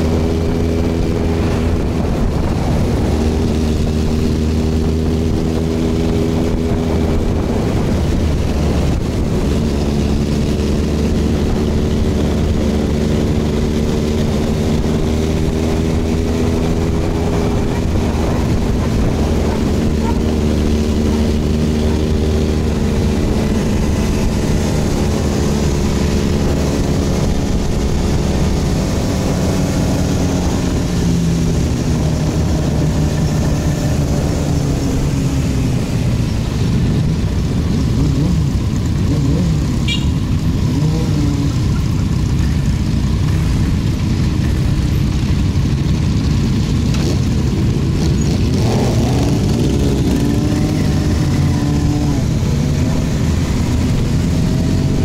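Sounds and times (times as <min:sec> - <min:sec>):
motorcycle engine running: 0:00.0 - 0:55.0
steady rushing noise: 0:00.0 - 0:55.0.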